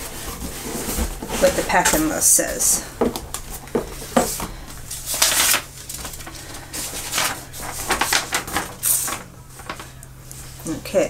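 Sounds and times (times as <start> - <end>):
paper rustling and crinkling: 0.0 - 2.7, 3.3 - 10.8.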